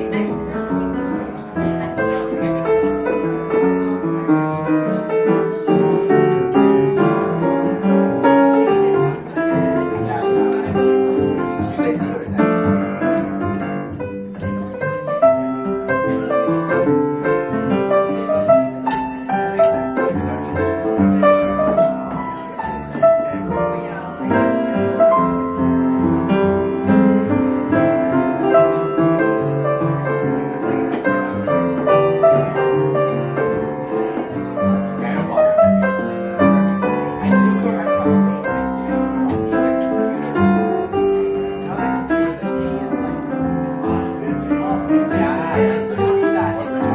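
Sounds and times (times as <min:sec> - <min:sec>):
jazz band playing: 0:00.0 - 0:46.9
piano chords and melody: 0:00.0 - 0:46.9.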